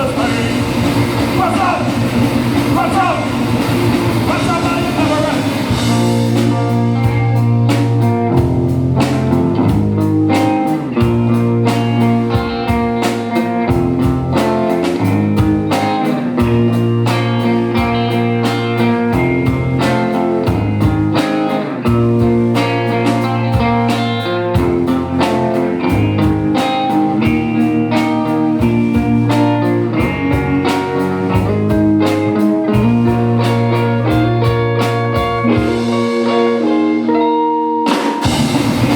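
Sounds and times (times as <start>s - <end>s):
drum beat: 0.0s - 32.2s, 32.8s - 36.2s, 37.9s - 38.9s
electric guitar: 0.0s - 38.9s.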